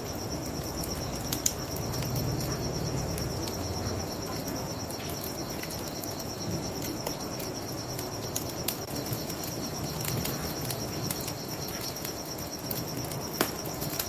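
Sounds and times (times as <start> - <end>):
crickets chirping: 0.0 - 14.0
wood fire crackling and popping: 0.0 - 14.0.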